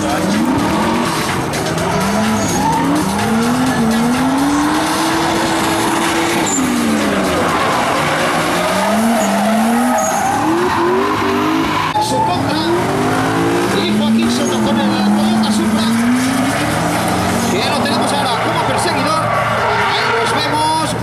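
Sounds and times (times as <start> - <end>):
tyre screech: 0.0 - 20.8
car engines revving: 0.0 - 21.0.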